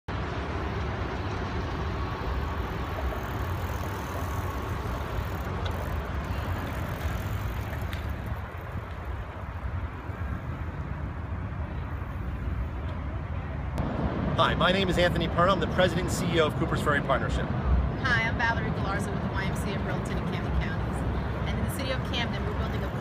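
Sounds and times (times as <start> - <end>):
road traffic rumble: 0.1 - 23.0.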